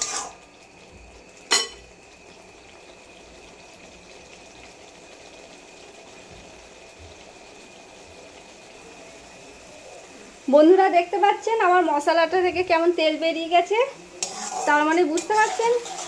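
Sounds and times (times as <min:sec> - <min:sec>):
paste sizzling in a pan: 0:00.0 - 0:16.0.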